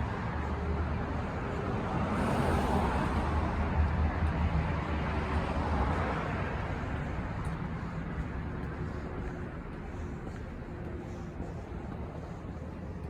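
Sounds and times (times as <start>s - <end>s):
car passing: 0.0s - 10.8s.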